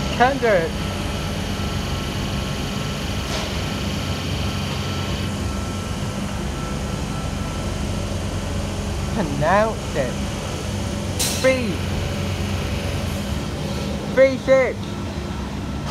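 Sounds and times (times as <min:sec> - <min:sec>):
train equipment humming: 0:00.0 - 0:15.9.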